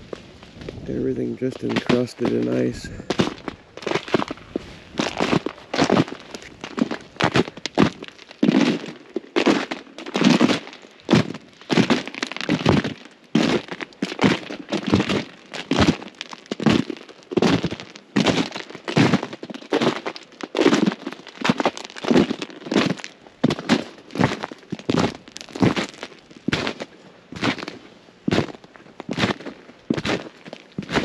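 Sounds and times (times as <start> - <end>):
footsteps crunching on icy ground: 0.0 - 31.0.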